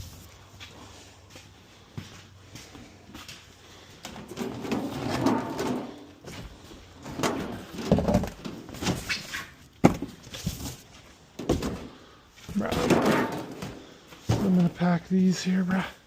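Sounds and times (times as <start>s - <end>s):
boxes rustling and scraping: 0.0s - 15.8s.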